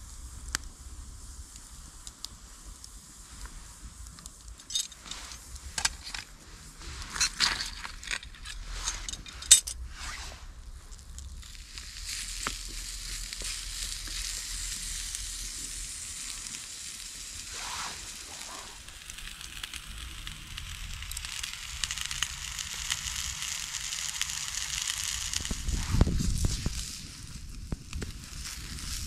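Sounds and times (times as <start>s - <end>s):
small crackles: 0.0s - 29.0s
vegetables sizzling in a frying pan: 0.0s - 29.0s.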